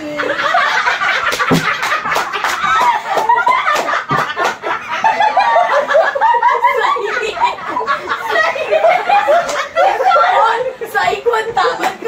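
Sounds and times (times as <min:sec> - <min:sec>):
group of people laughing: 0:00.0 - 0:12.0.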